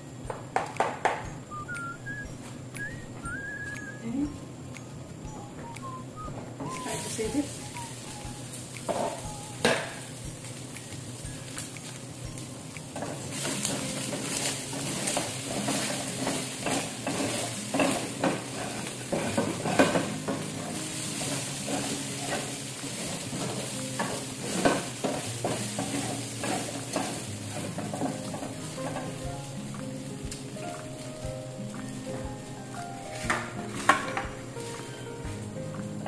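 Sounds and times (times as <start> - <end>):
meat sizzling in a frying pan: 5.8 - 36.0
spatula scraping and tapping pan: 6.6 - 36.0.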